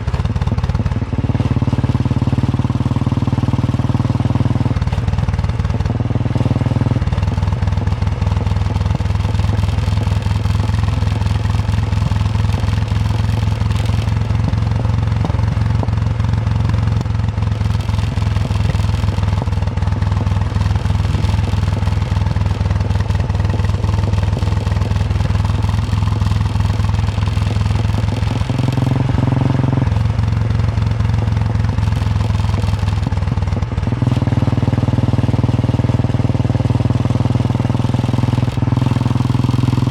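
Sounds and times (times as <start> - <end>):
motorcycle engine thumping: 0.0 - 39.9.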